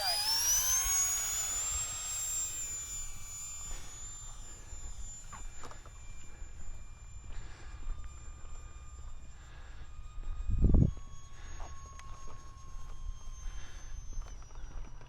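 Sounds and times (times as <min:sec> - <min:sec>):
electric ducted fan whine: 0:00.0 - 0:15.0.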